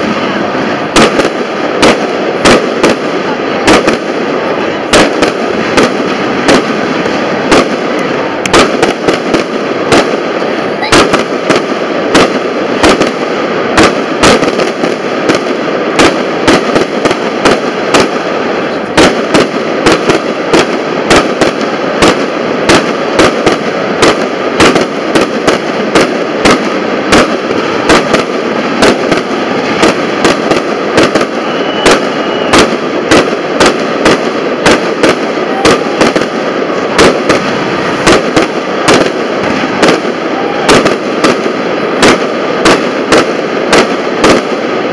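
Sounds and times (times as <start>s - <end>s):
continuous noisy din: 0.0s - 44.9s
fireworks bursting: 0.0s - 44.9s.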